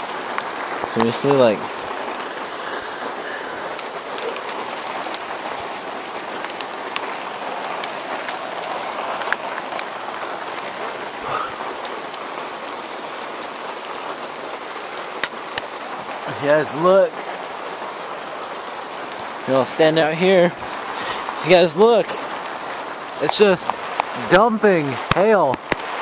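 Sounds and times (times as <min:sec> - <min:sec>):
hail falling: 0:00.0 - 0:26.0.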